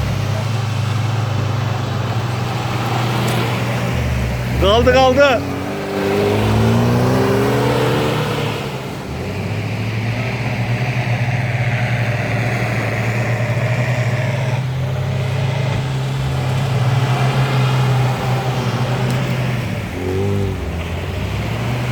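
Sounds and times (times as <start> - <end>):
car engine straining: 0.0 - 21.9.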